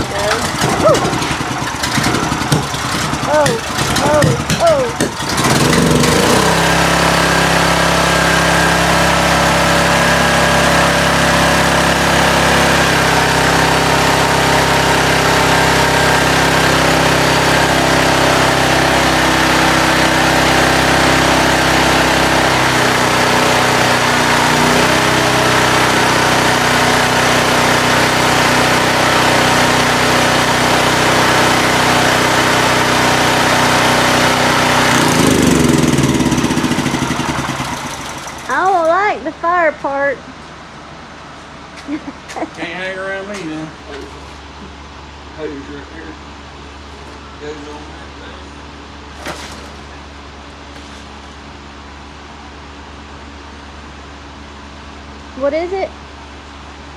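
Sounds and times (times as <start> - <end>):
generator engine running: 0.0 - 56.9.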